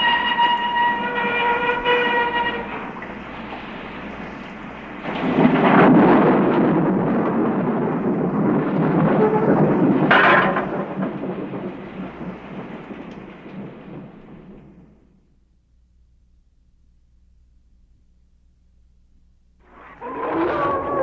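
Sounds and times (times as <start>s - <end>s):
thunder rumbling: 0.0s - 15.5s, 19.5s - 21.0s.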